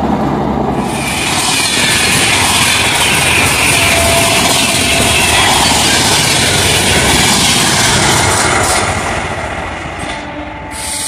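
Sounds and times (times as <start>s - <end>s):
train rushing roar: 0.0s - 11.0s.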